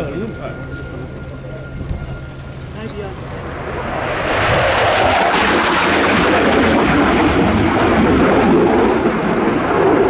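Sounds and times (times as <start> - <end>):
jet engines roaring in a pass: 0.0 - 10.0.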